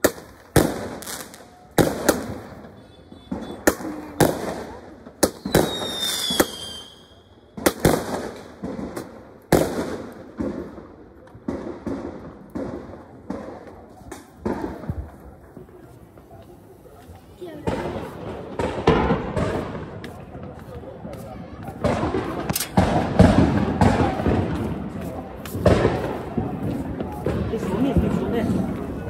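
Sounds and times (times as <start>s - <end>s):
fireworks banging: 0.0s - 29.0s.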